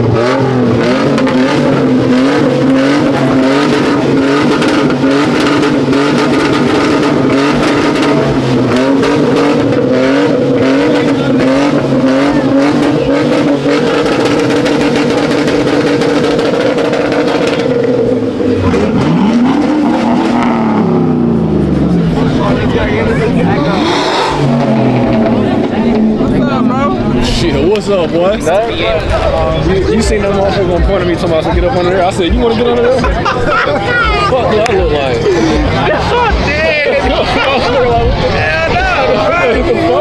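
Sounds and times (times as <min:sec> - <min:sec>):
car engine at high revs: 0:00.0 - 0:40.0.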